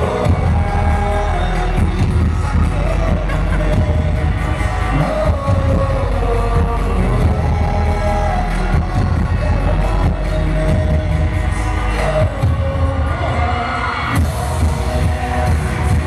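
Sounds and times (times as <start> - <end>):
crowd noise: 0.0 - 16.0
male vocal pop music: 0.0 - 16.0.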